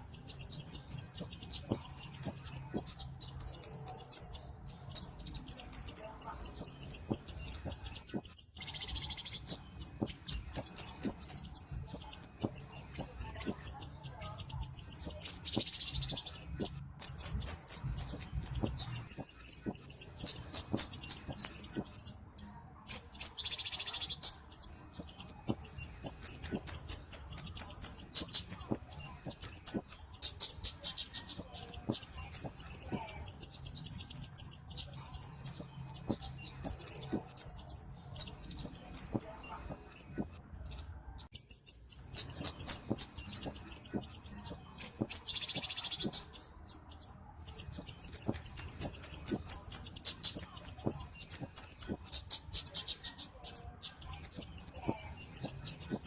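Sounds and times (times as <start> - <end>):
bird calling in high ticking notes: 0.0 - 56.0.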